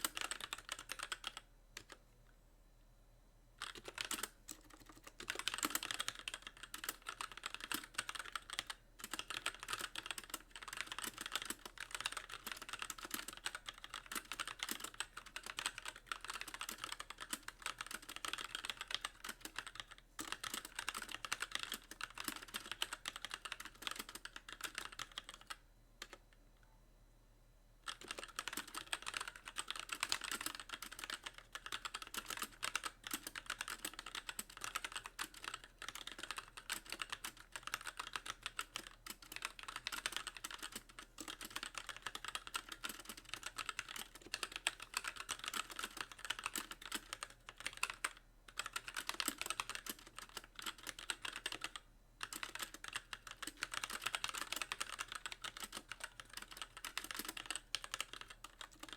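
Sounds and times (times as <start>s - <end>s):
fast mechanical keyboard typing: 0.0s - 2.0s, 3.6s - 26.2s, 27.8s - 58.9s.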